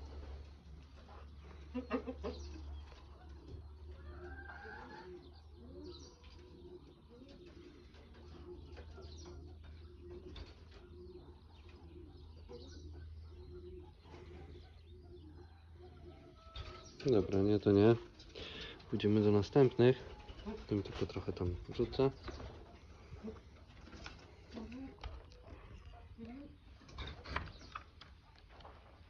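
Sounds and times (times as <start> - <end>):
birds cooing: 0.0 - 29.0.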